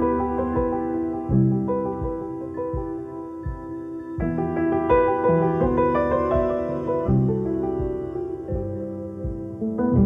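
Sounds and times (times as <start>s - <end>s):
gentle low pulse: 0.0s - 10.0s
soft piano instrumental: 0.0s - 10.0s.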